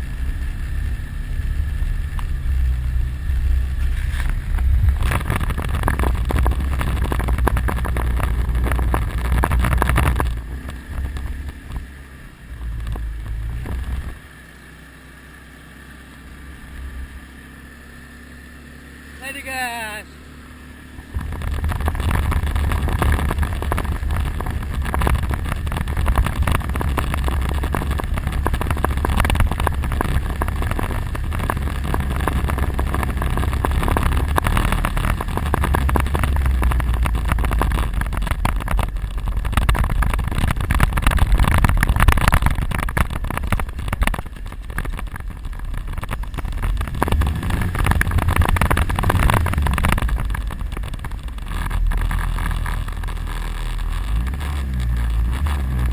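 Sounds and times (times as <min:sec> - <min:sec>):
quad engine rumbling: 0:00.0 - 0:55.9.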